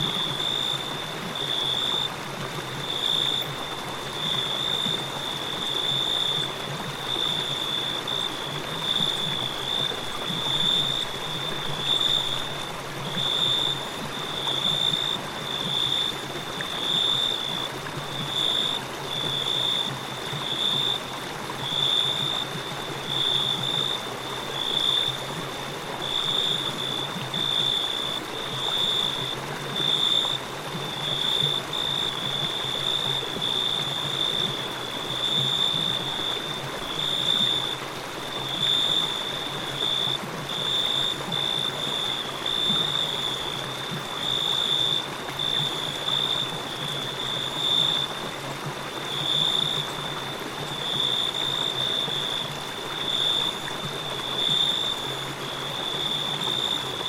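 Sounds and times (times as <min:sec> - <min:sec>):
crickets chirping: 0:00.0 - 0:57.0
flowing river: 0:00.0 - 0:57.0.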